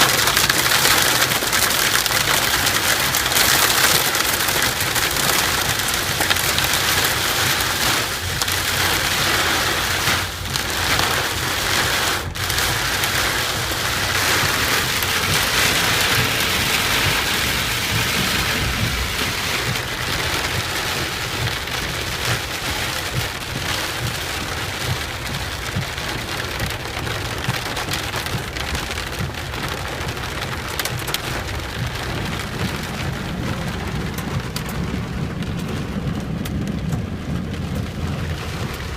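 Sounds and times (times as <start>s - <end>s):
heavy rain pouring: 0.0s - 38.9s
low thunder rumble: 0.1s - 27.7s, 28.3s - 38.9s.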